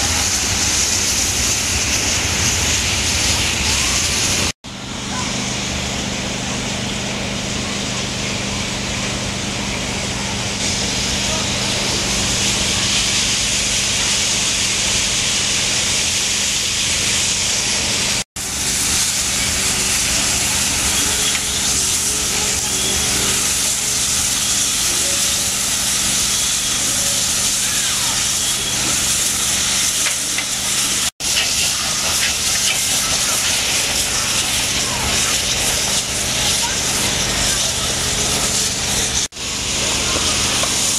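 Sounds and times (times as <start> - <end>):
steam locomotive hissing: 0.0 - 40.9.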